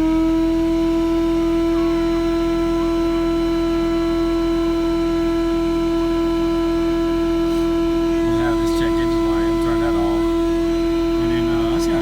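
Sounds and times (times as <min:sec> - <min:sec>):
loud steady whine: 0:00.0 - 0:12.0
car engine idling: 0:00.8 - 0:12.0.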